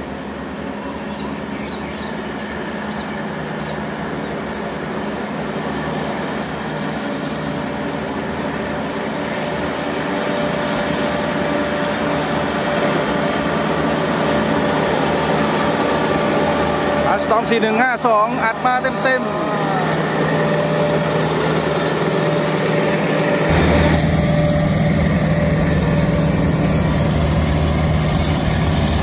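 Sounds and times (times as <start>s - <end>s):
diesel locomotive at full power: 0.0s - 29.0s.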